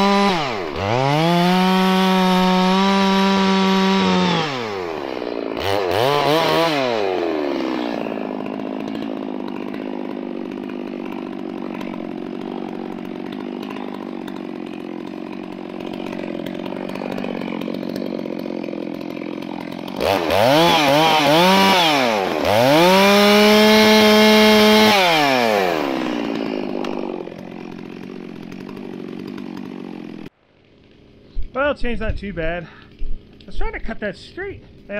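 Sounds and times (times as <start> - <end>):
chainsaw revving and idling: 0.0 - 32.1, 32.8 - 34.9.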